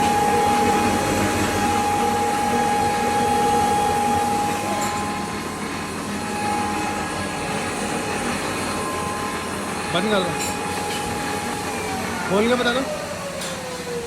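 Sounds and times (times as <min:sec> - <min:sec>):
high machine whine: 0:00.0 - 0:14.0.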